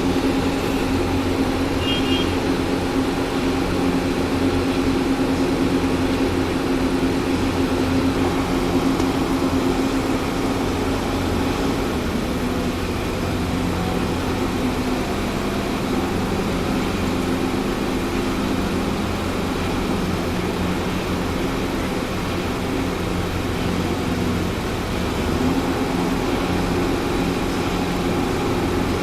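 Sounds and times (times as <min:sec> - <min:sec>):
concrete mixer engine droning: 0:00.0 - 0:29.0.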